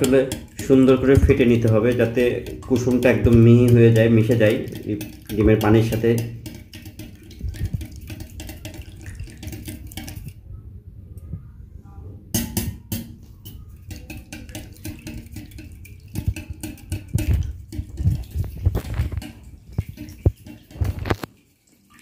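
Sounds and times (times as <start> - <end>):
whisk clicking against glass bowl: 0.0 - 10.4, 12.3 - 21.1.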